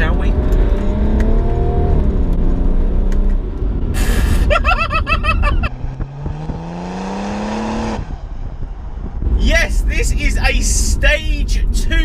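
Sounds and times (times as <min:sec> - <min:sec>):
diesel car engine accelerating: 0:00.0 - 0:12.0.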